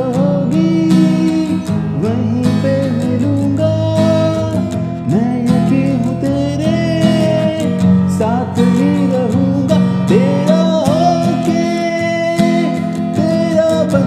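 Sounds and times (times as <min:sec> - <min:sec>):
acoustic guitar accompaniment: 0:00.0 - 0:14.0.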